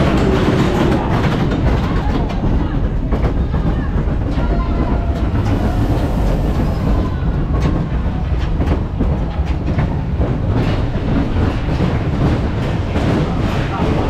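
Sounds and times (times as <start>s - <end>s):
clicks and clacks: 0.0s - 14.0s
wheels rumbling on steel track: 0.0s - 14.0s.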